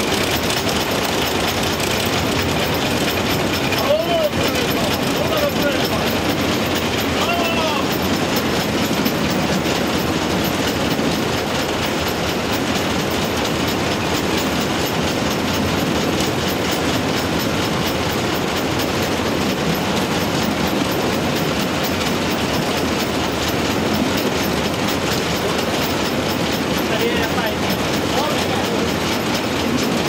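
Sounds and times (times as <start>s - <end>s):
steam locomotive engine: 0.0s - 30.0s
wheels on rails: 0.0s - 30.0s.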